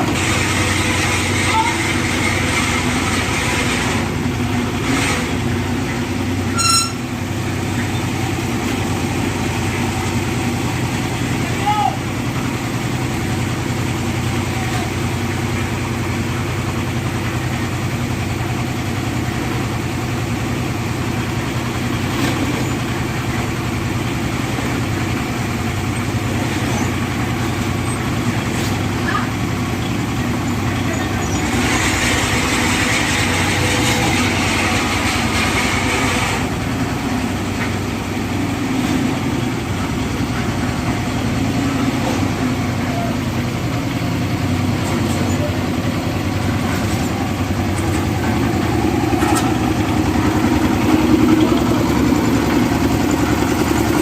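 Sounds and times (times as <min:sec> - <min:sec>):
concrete mixer engine running: 0:00.0 - 0:54.0.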